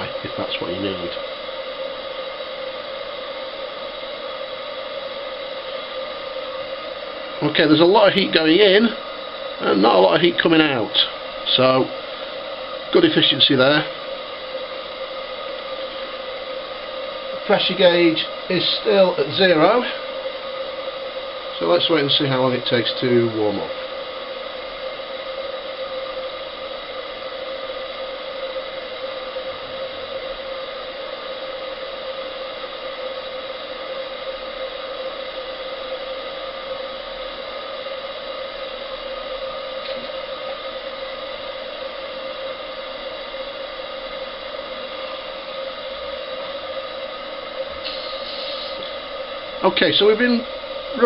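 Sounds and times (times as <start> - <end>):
gas burner rushing: 0.0 - 51.0.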